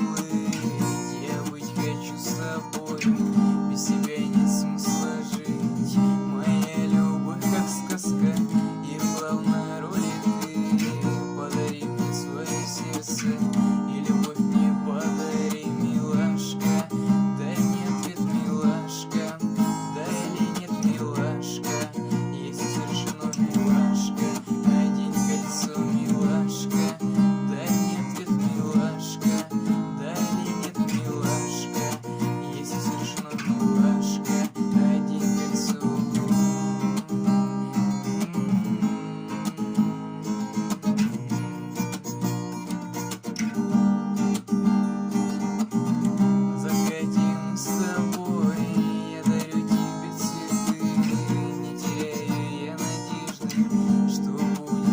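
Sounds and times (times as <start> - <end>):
acoustic guitar strumming: 0.0 - 54.9.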